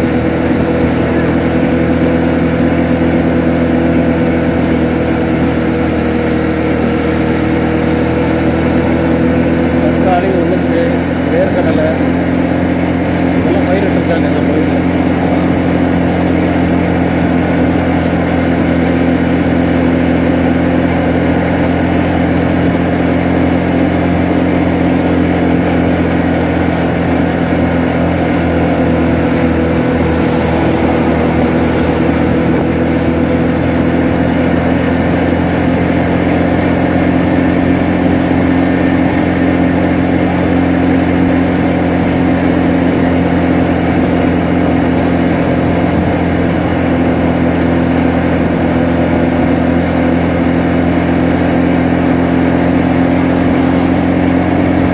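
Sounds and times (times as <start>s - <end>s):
motorbike engine running: 0.0s - 54.9s.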